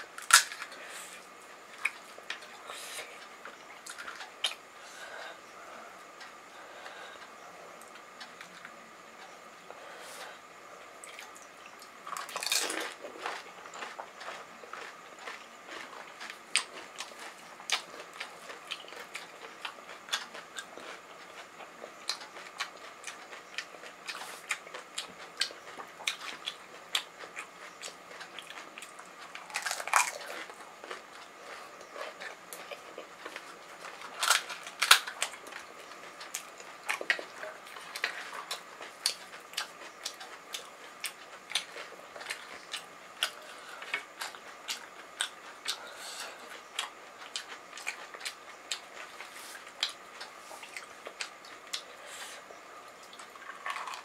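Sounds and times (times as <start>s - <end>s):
chewing crisp shells crunching: 0.0s - 4.7s, 11.0s - 54.0s.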